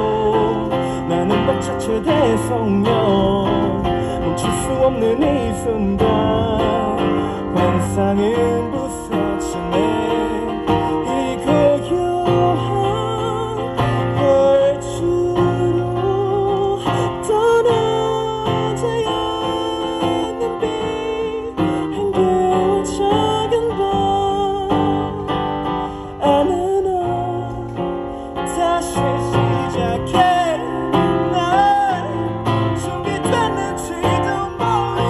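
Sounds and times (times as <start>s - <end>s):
acoustic guitar: 0.0s - 35.0s
man singing into microphone: 0.0s - 35.0s.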